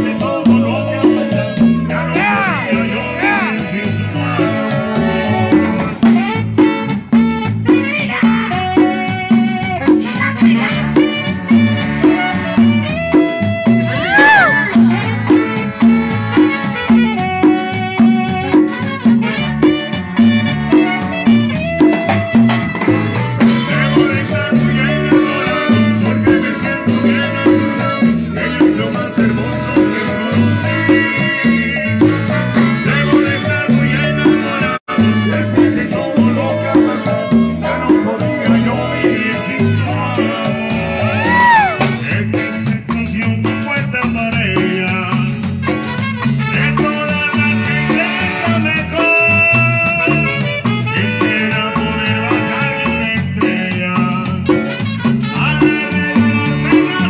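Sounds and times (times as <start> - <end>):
bouncing bass line: 0.0 - 57.0
brass band playing: 0.0 - 57.0
saxophones playing melody: 0.9 - 28.6, 29.6 - 34.2, 34.9 - 42.0, 45.6 - 53.5, 54.2 - 57.0.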